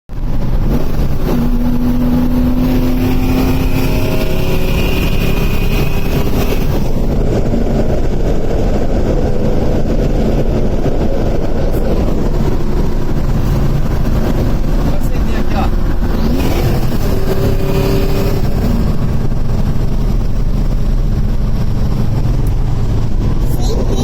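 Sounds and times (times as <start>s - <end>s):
car engine and exhaust rumbling: 0.1s - 24.0s.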